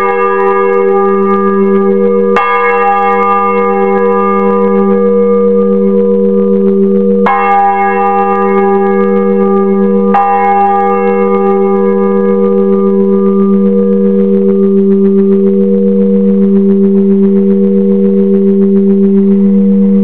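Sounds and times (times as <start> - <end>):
church bell ringing: 0.0 - 16.4
steady low hum: 0.0 - 20.0.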